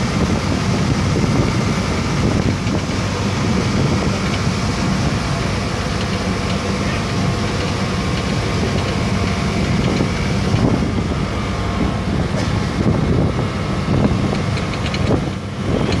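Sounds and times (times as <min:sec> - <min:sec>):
boat engine droning: 0:00.0 - 0:16.0
wind on microphone: 0:00.0 - 0:16.0.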